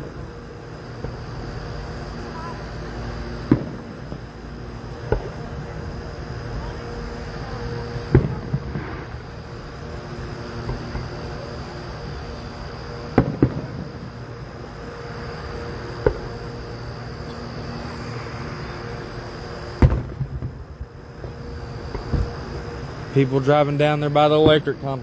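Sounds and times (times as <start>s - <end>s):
distant fireworks booming: 0.0s - 25.0s
insects chirring: 0.0s - 25.0s.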